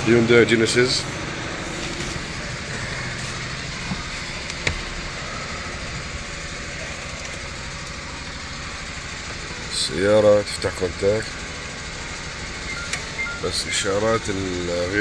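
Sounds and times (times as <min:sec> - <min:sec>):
engine idling hum: 0:00.0 - 0:15.0.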